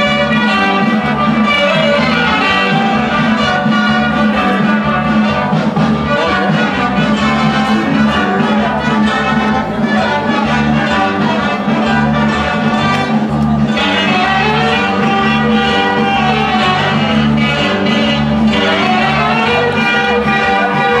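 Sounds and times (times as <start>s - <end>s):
band music with violins and brass: 0.0s - 21.0s.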